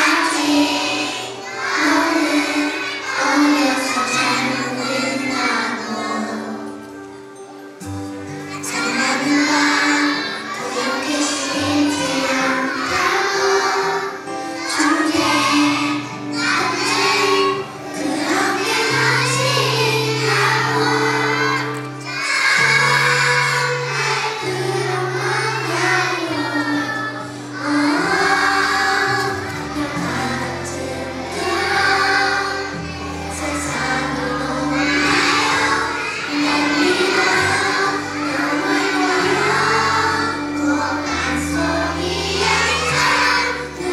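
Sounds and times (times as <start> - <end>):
children singing: 0.0 - 43.9.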